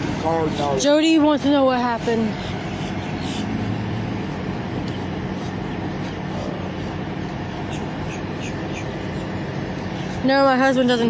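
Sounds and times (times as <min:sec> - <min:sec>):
low engine hum: 0:00.0 - 0:11.0
road traffic: 0:00.0 - 0:11.0.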